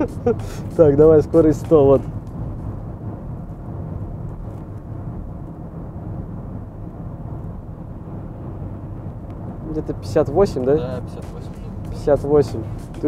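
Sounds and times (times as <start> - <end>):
car cabin road and tyre noise: 0.0 - 13.0.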